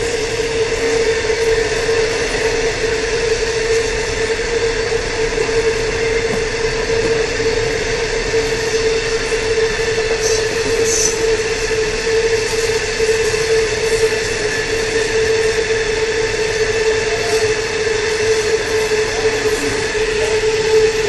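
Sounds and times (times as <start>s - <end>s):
freight train wheels on rail: 0.0s - 21.0s
steady whining tone: 0.0s - 21.0s.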